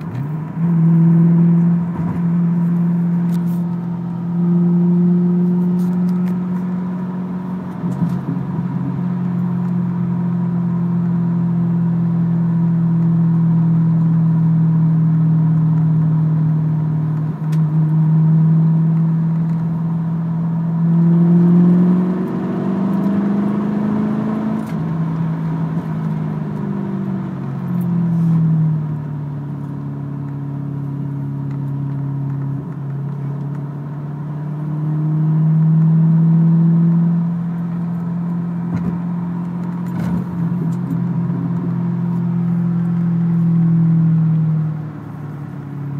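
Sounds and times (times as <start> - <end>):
car engine droning while driving: 0.0 - 45.9.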